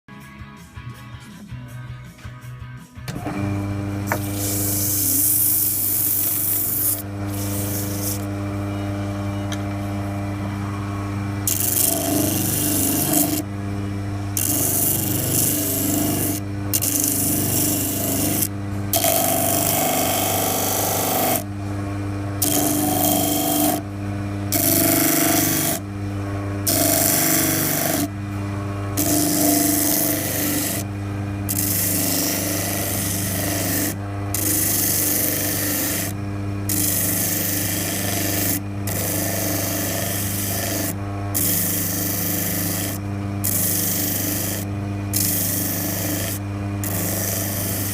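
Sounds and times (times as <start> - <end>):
disc sander motor hum: 3.1 - 47.9.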